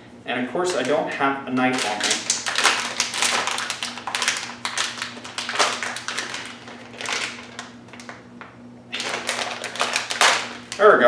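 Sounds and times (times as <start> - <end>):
plastic bag crinkling: 0.6 - 11.0.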